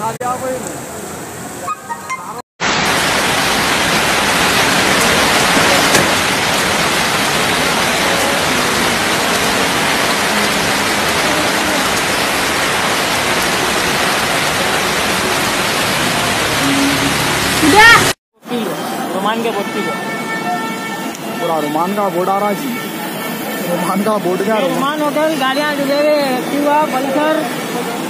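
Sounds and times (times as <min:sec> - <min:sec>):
heavy rain on wet street: 0:00.0 - 0:28.0.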